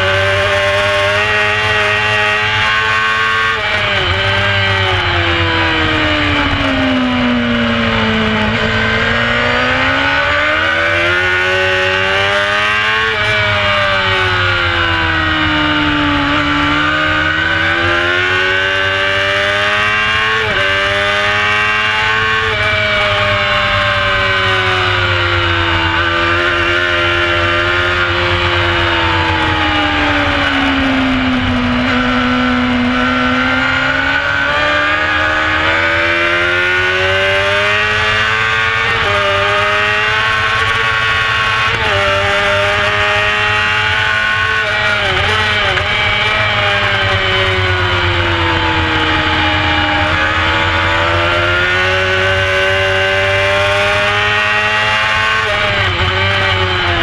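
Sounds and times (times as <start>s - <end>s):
motorcycle engine at racing speed: 0.0s - 57.0s.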